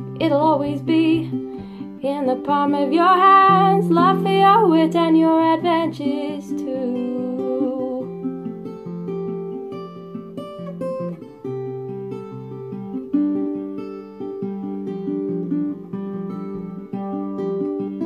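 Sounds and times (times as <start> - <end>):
acoustic guitar fingerpicking: 0.0 - 18.0.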